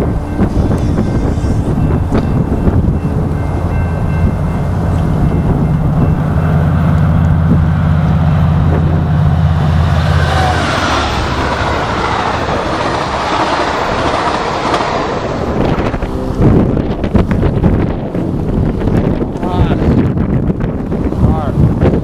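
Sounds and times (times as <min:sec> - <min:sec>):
locomotive engine drone: 0:00.0 - 0:22.0
wheels rushing on rails: 0:00.0 - 0:22.0.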